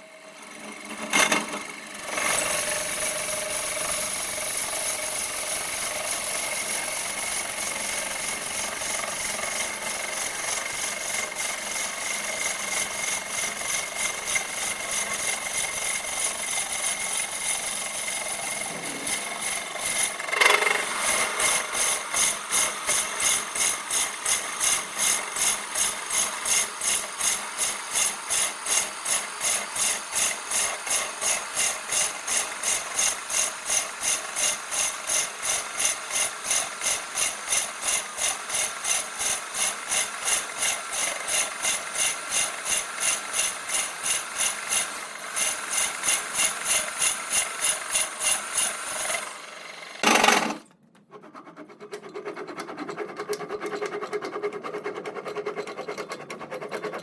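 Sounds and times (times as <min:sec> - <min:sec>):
lathe tool scraping wood: 0:00.6 - 0:56.8.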